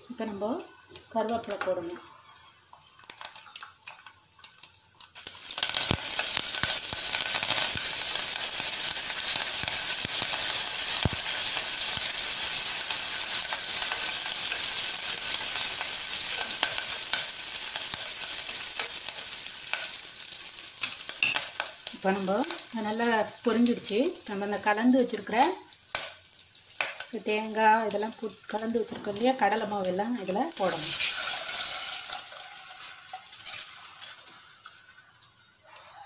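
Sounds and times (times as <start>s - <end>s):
leaves sizzling in hot oil: 0.0s - 36.0s.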